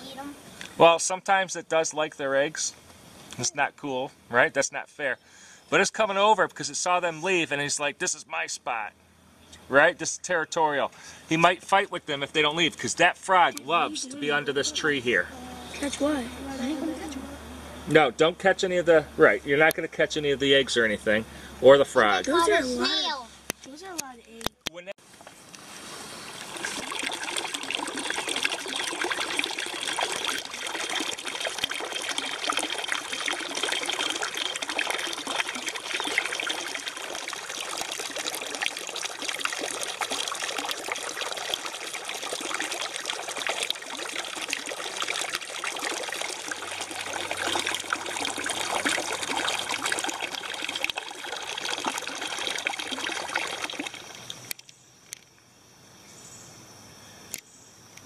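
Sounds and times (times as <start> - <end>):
trickling water: 0.0 - 23.0, 25.0 - 55.2.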